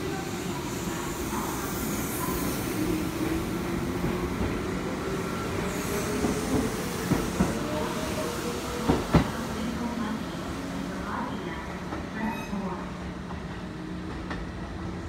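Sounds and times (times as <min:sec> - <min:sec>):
electric train rumbling past: 0:00.0 - 0:15.0.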